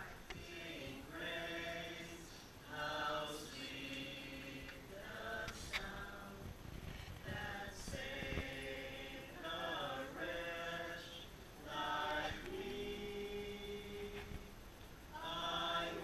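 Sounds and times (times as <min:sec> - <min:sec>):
group singing unaccompanied: 0:00.0 - 0:06.6, 0:07.2 - 0:16.0.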